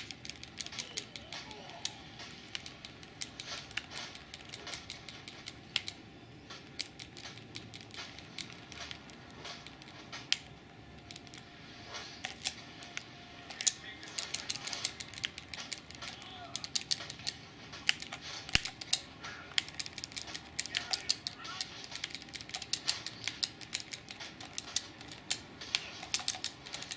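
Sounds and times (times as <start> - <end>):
light clicks and taps: 0.0 - 11.5, 12.2 - 26.9.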